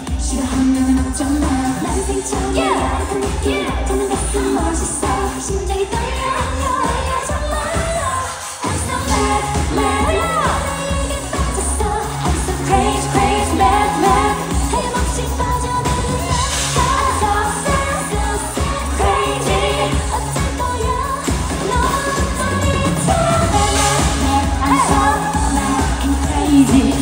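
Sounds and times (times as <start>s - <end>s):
backing music with heavy bass: 0.0s - 27.0s
women singing: 0.0s - 27.0s.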